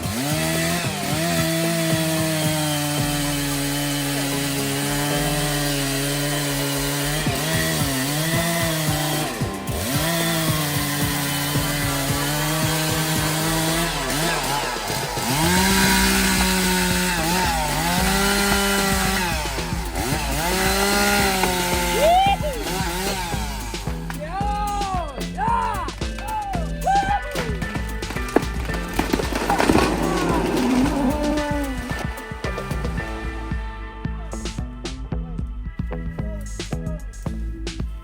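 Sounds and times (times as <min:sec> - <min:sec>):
chainsaw cutting wood: 0:00.0 - 0:33.5.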